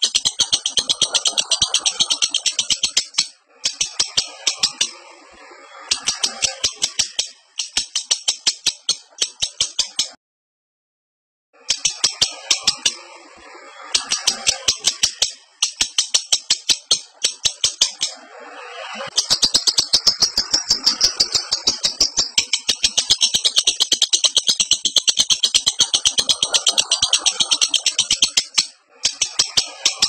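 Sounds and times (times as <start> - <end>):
lovebird chattering: 0.0 - 4.9, 5.8 - 10.2, 11.7 - 13.0, 13.8 - 30.0.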